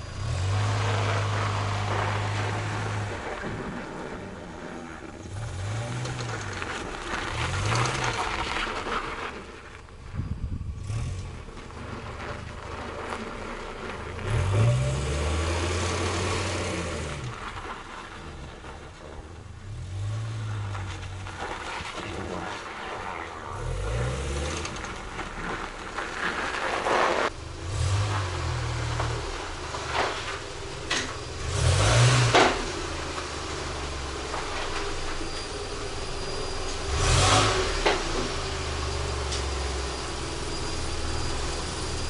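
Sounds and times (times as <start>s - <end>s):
car engine revving: 0.0s - 9.6s, 10.7s - 42.0s
tyre and road noise: 0.0s - 42.0s.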